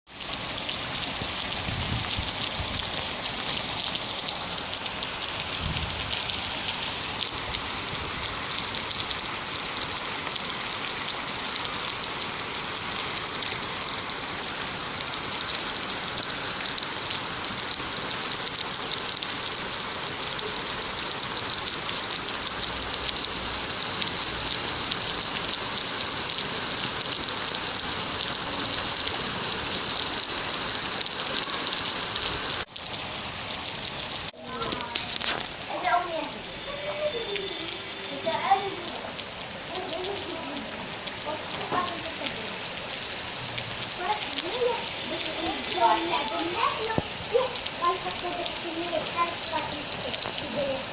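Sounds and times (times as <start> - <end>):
heavy rain falling: 0.1 - 50.9.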